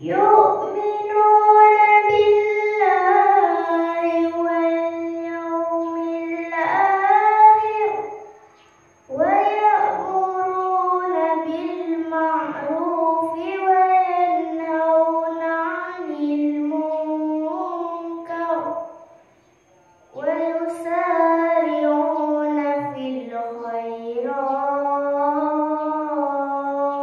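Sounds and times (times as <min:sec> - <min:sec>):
girl chanting a recitation: 0:00.0 - 0:19.4, 0:20.0 - 0:27.0.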